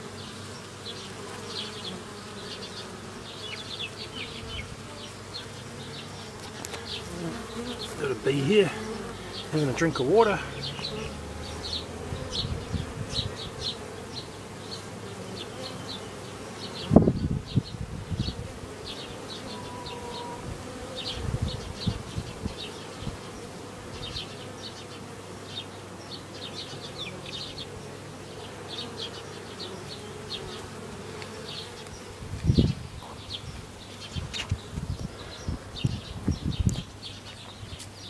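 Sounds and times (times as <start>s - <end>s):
bees buzzing: 0.0s - 38.0s.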